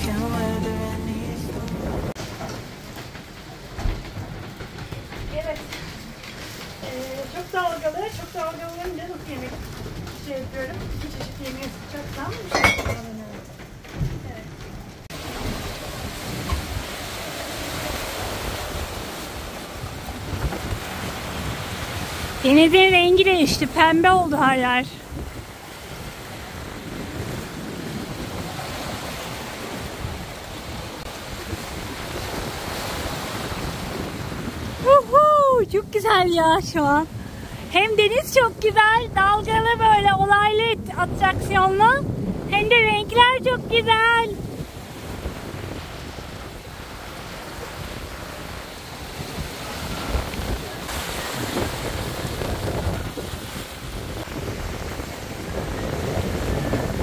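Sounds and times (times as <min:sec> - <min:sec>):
ocean waves rushing: 0:00.0 - 0:10.9, 0:15.0 - 0:57.0
water foaming past hull: 0:00.0 - 0:13.5, 0:14.2 - 0:57.0
wind buffeting microphone: 0:01.5 - 0:57.0.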